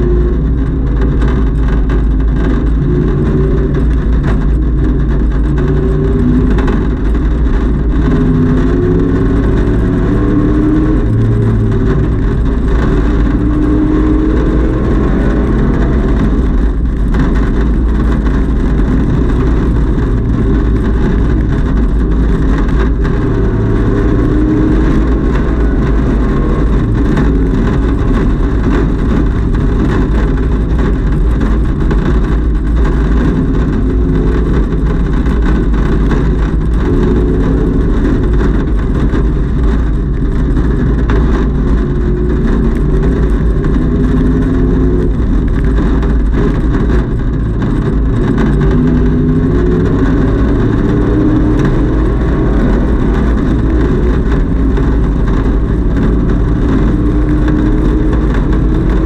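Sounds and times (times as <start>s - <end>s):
race car engine running hard: 0.0s - 59.0s
road and wind noise: 0.0s - 59.0s.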